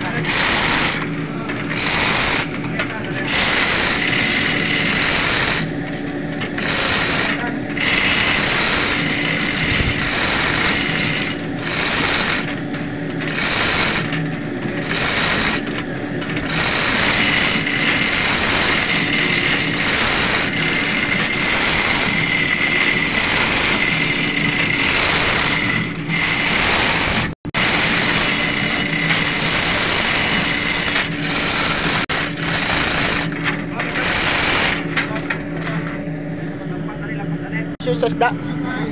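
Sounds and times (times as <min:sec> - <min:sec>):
machinery droning: 0:00.0 - 0:38.9.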